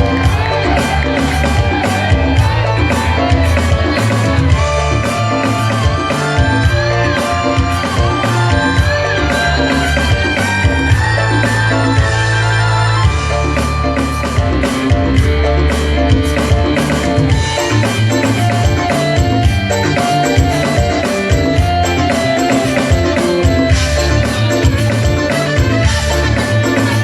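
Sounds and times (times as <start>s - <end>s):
loud music with driving drum beat: 0.0s - 27.0s.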